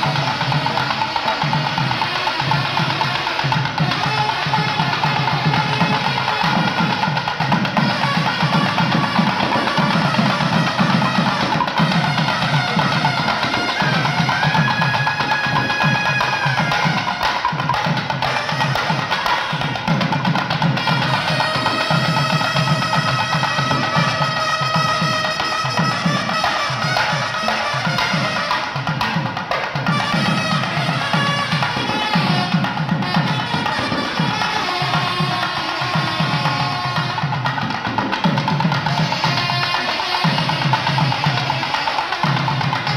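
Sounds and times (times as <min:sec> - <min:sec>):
double-reed pipe melody: 0:00.0 - 0:37.9
drum strokes: 0:00.0 - 0:42.9.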